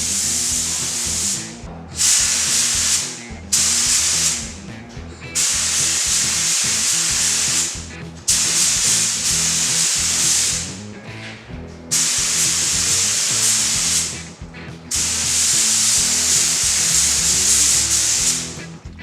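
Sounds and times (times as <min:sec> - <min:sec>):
spray gun hissing: 0:00.0 - 0:04.5, 0:05.4 - 0:10.7, 0:11.9 - 0:14.2, 0:14.9 - 0:18.6
background music: 0:00.0 - 0:19.0.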